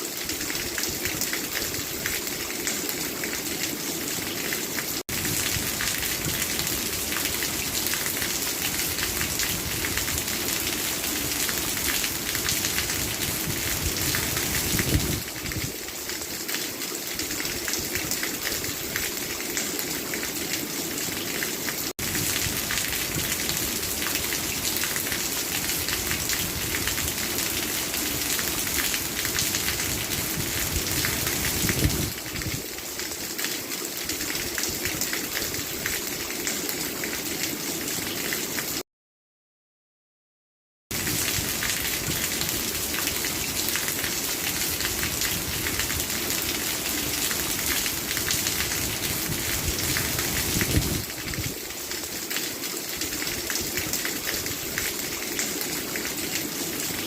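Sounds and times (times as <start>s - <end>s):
steady rain falling: 0.0s - 38.8s, 40.9s - 57.0s.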